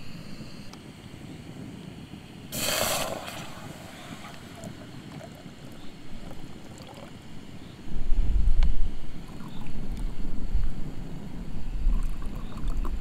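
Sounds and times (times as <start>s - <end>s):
loud gas hiss: 0.0s - 0.8s, 1.5s - 12.2s
gas stove burning: 0.0s - 12.2s.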